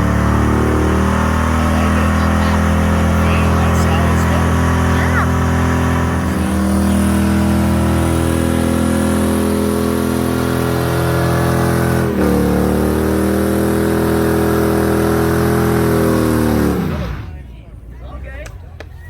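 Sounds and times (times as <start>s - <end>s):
car engine revving high: 0.0s - 18.4s.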